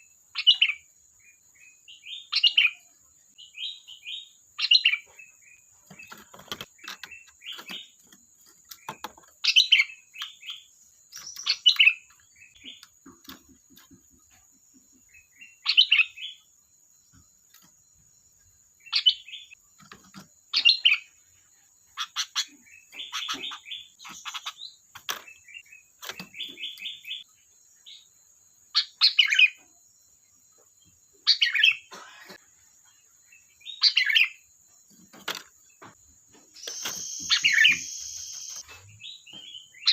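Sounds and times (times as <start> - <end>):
bird chirping phrases: 0.0 - 39.9
faint high whine: 0.0 - 39.9.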